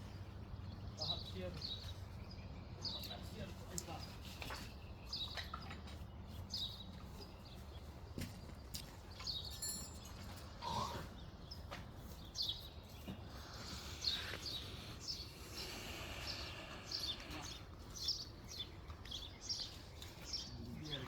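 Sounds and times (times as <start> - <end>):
birds chirping: 0.0 - 21.0
low outdoor background hum: 0.0 - 21.0.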